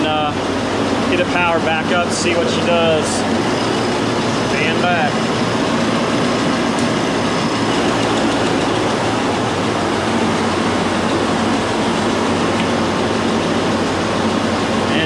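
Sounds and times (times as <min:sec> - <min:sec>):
compressor running: 0:00.0 - 0:15.0
low hum: 0:00.0 - 0:15.0.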